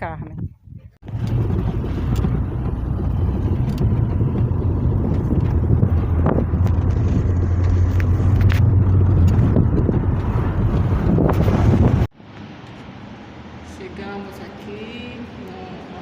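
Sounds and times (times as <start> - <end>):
car engine and road noise: 1.0 - 16.0.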